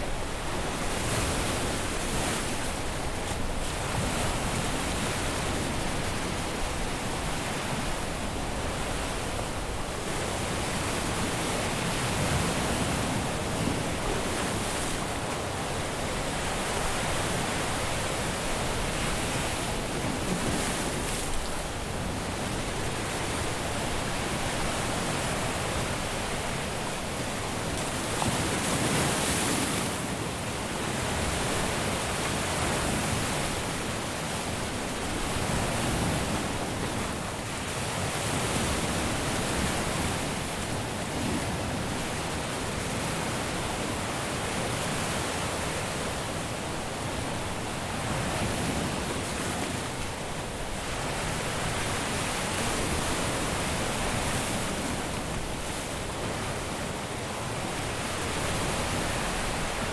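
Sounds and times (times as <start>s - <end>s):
waves breaking on a beach: 0.0s - 59.9s.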